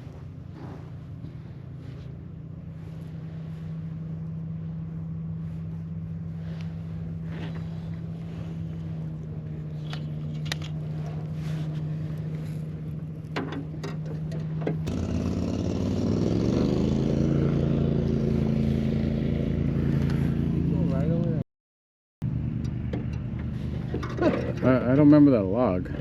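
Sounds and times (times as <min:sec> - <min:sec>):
boat motor running: 0:00.0 - 0:21.4.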